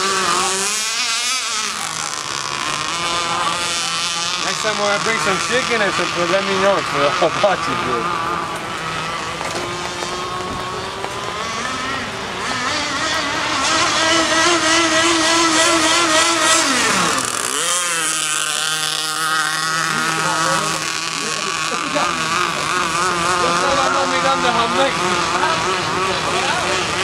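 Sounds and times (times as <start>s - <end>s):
small high-revving boat engine: 0.0s - 27.0s.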